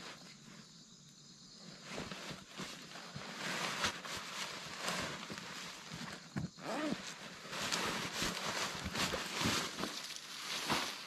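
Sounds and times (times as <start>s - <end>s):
fabric bag rustling: 1.8s - 11.0s.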